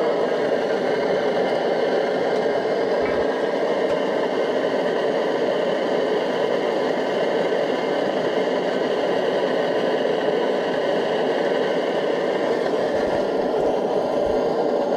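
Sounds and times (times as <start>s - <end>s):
camping stove hissing: 0.0s - 14.9s.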